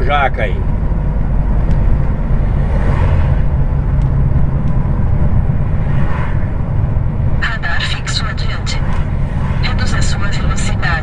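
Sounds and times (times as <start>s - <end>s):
diesel truck engine rumble: 0.0s - 11.0s
road noise: 0.0s - 11.0s.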